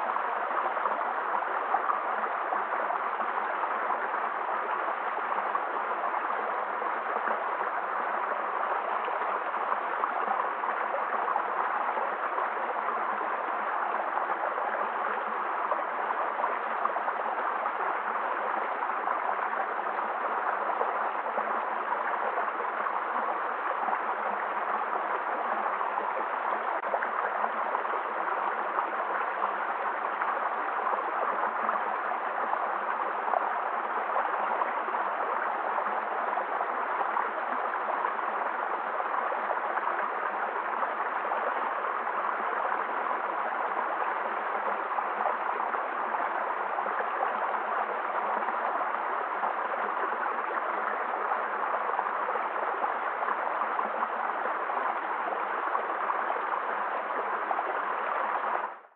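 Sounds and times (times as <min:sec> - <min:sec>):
stream running over stones: 0:00.0 - 0:58.9.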